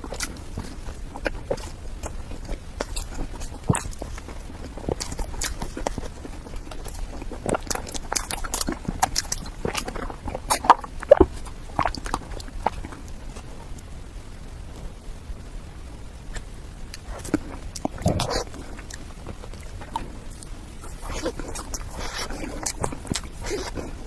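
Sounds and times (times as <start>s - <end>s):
wet chewing and smacking: 0.0s - 13.9s, 16.3s - 24.0s.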